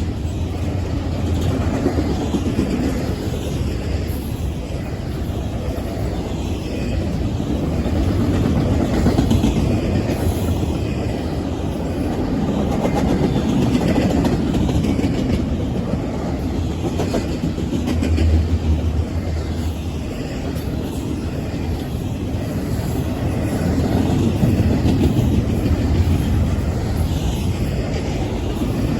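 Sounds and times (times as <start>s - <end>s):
train rumbling past: 0.0s - 28.9s
wheels clacking on rails: 0.0s - 28.9s.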